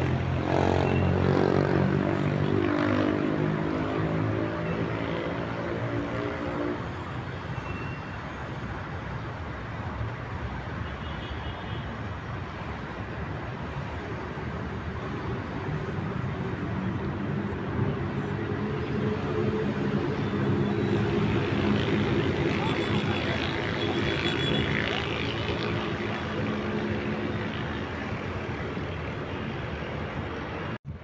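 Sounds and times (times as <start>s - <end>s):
steady traffic hum: 0.0s - 31.0s.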